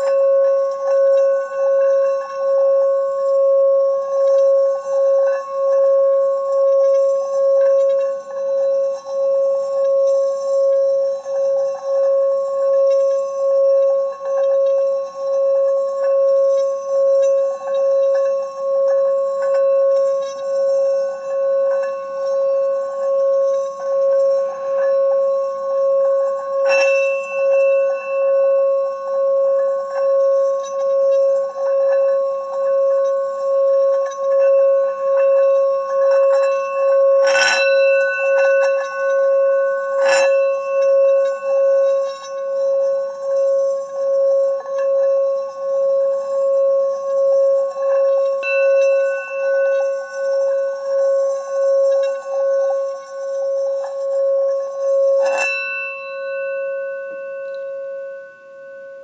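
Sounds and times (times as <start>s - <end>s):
singing bowl ringing tone: 0.0s - 59.0s
singing bowl strikes: 0.0s - 59.0s.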